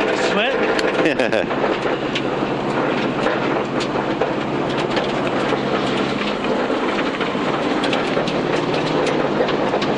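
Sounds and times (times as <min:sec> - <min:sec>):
car engine running: 0:00.0 - 0:09.9
tyre and road noise: 0:00.0 - 0:09.9
stones ticking against car: 0:00.2 - 0:09.9.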